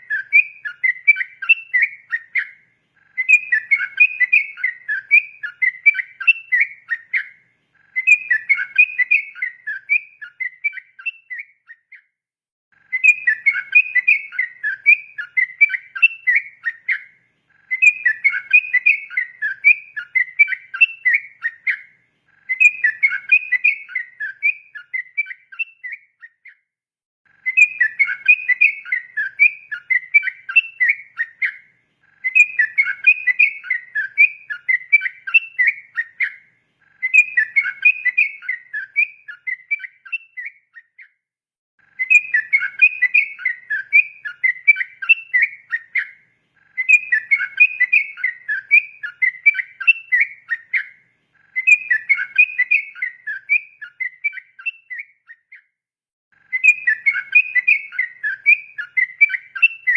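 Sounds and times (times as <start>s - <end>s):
bulbul warbling song: 0.0s - 12.0s, 12.8s - 26.6s, 27.3s - 41.1s, 41.9s - 55.6s, 56.4s - 59.9s.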